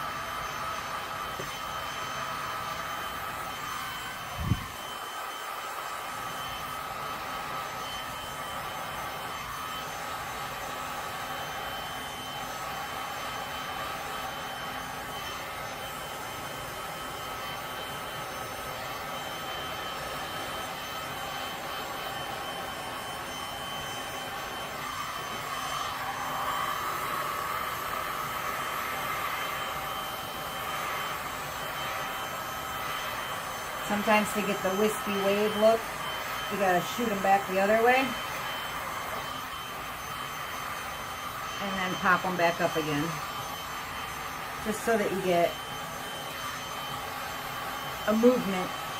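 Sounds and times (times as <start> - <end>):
heat gun blowing with fan whine: 0.0 - 48.9.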